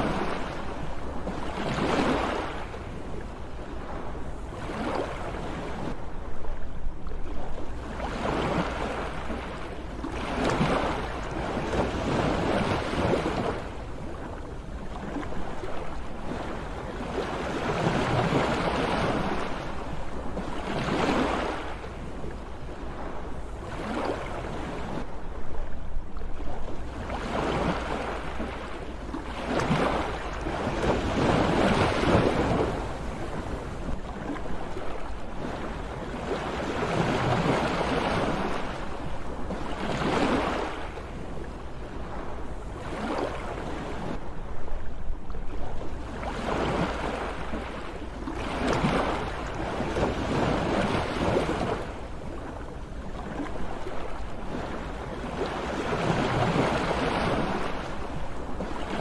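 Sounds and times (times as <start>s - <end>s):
sea waves washing in: 0.0s - 59.0s.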